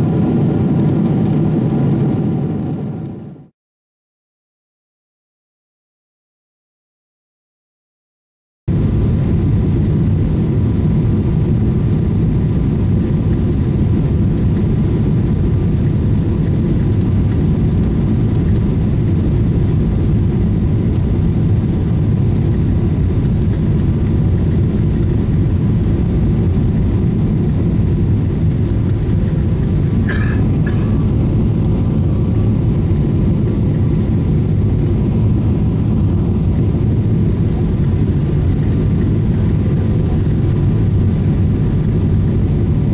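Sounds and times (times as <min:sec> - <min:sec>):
airplane cabin engine rumble: 0:00.0 - 0:03.5, 0:08.7 - 0:42.9.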